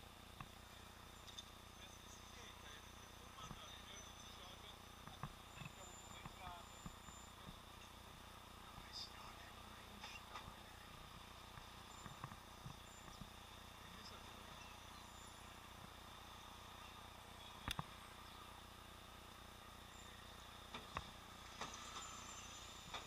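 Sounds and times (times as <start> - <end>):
muffled street hiss and hum: 0.0 - 23.0.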